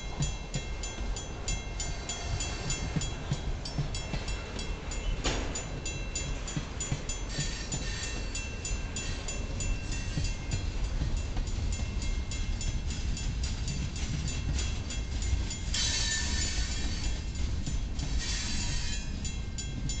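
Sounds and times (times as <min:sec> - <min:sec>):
train wheels clicking over rail joints: 0:00.0 - 0:20.0
wheel-on-rail rushing noise: 0:00.0 - 0:20.0.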